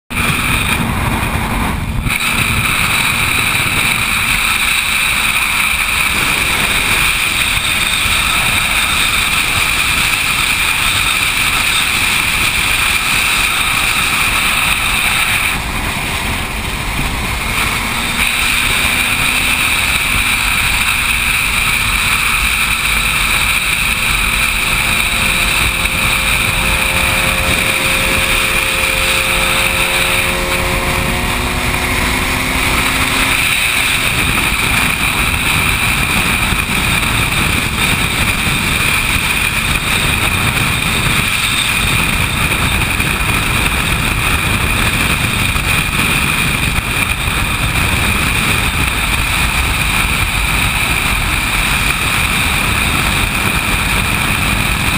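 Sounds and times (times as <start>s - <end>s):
motorcycle engine: 0.0s - 54.9s
road noise: 0.0s - 54.9s
wind rushing on microphone: 0.1s - 54.9s.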